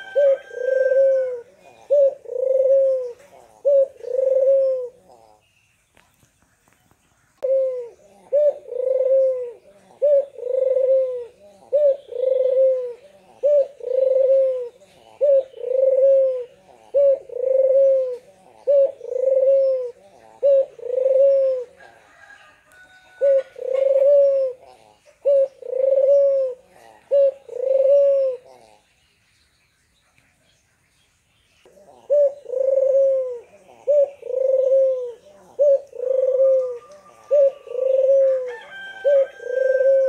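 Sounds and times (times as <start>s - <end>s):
dove cooing: 0.0s - 5.5s, 7.4s - 28.9s, 31.7s - 40.0s.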